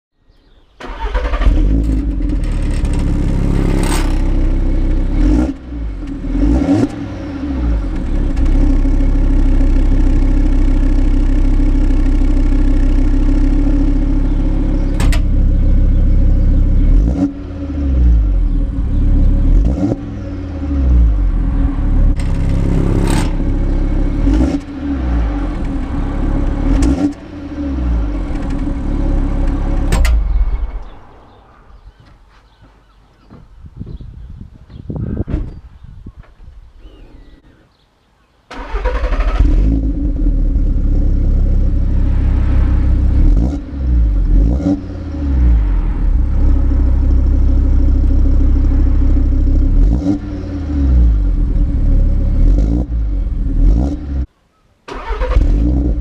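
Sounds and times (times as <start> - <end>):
car engine and exhaust running: 1.4 - 32.1, 39.4 - 53.8.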